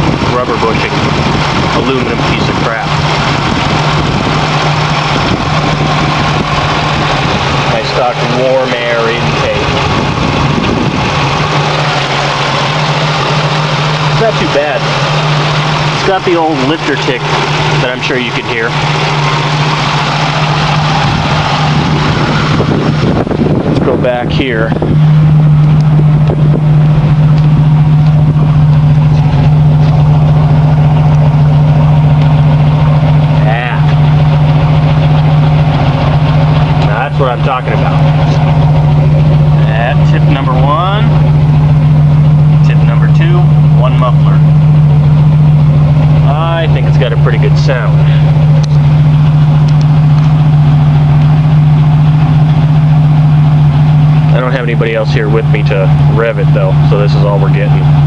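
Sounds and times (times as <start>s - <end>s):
car exhaust idling: 0.0s - 58.0s.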